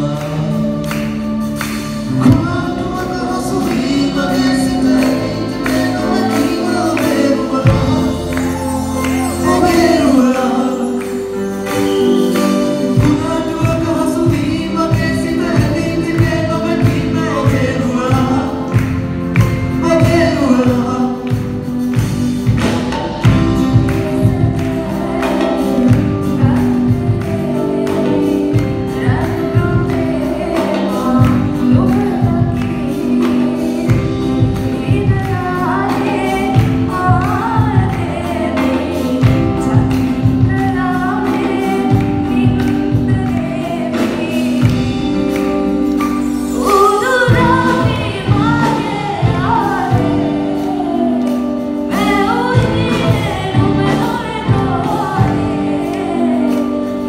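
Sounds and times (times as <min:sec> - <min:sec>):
group of singers singing: 0:00.0 - 0:57.0
live band playing: 0:00.0 - 0:57.0
steady drum beat: 0:00.0 - 0:57.0.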